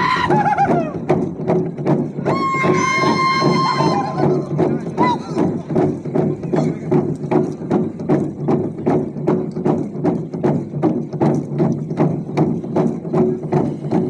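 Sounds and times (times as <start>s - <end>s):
log drum wooden knocks: 1.0s - 14.0s.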